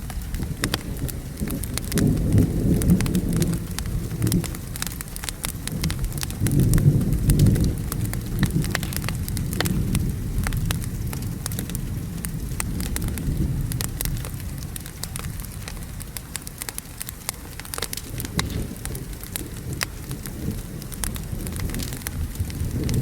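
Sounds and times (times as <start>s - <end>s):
low rumble of thunder: 0.0s - 23.0s
steady falling rain: 0.0s - 23.0s
wood fire crackling and popping: 0.0s - 23.0s.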